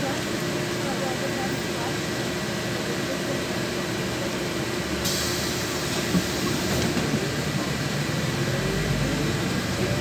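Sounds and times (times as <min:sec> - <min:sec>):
bus engine and road drone: 0:00.0 - 0:10.0.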